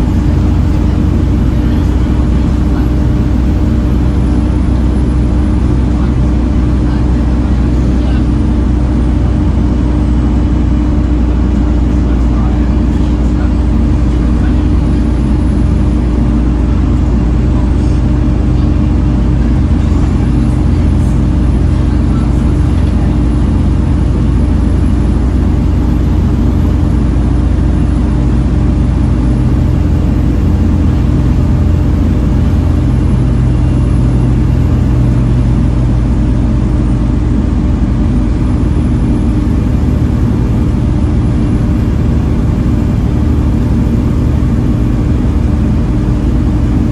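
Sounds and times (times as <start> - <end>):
bus diesel engine droning: 0.0 - 46.9
high engine whine: 0.0 - 46.9.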